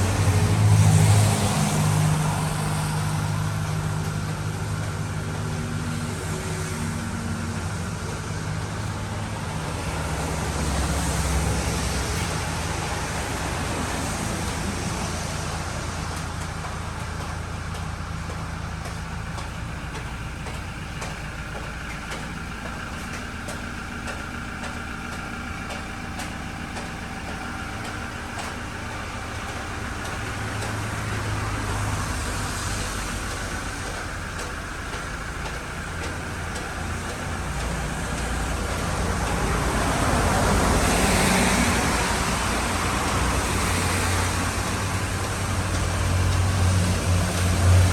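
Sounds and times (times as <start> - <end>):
road noise: 0.0 - 47.9
vehicle engine running: 0.0 - 47.9.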